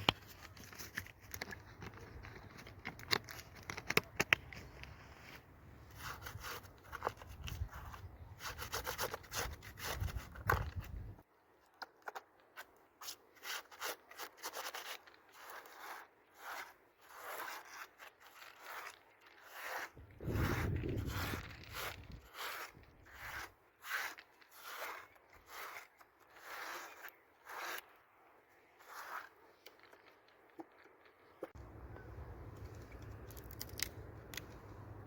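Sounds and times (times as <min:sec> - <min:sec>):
rubbing and scraping strokes: 0:00.0 - 0:11.2, 0:12.1 - 0:35.0.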